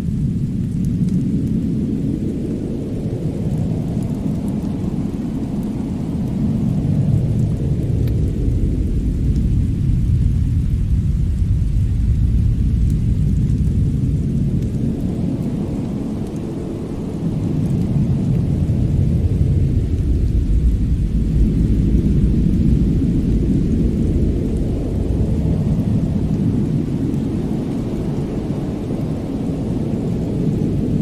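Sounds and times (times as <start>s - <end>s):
fireplace crackles: 0.1s - 31.0s
deep steady rumbling: 3.1s - 31.0s.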